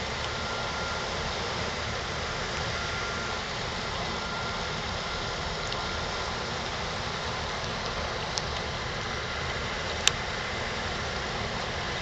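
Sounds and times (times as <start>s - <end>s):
ship engine: 0.0s - 12.0s
thin high whine: 0.0s - 12.0s.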